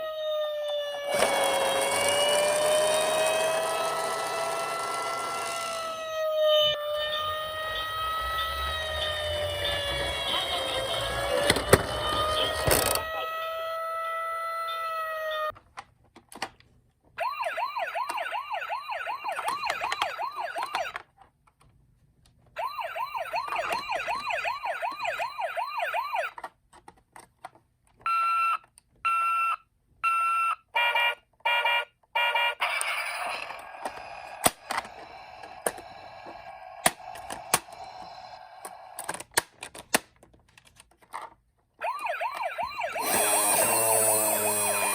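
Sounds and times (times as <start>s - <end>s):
toy sirens through tinny speaker: 0.0s - 15.6s, 17.2s - 21.0s, 22.6s - 26.5s, 28.1s - 39.2s, 41.8s - 44.9s.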